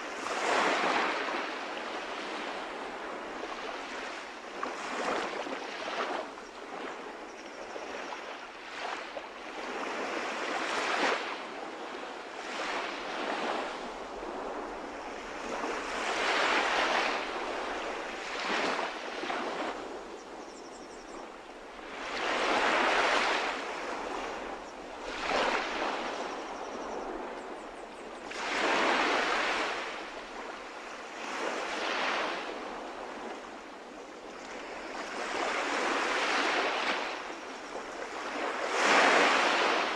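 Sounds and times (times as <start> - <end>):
sea waves breaking: 0.0 - 6.3, 8.2 - 20.1, 21.6 - 27.5, 28.2 - 39.9.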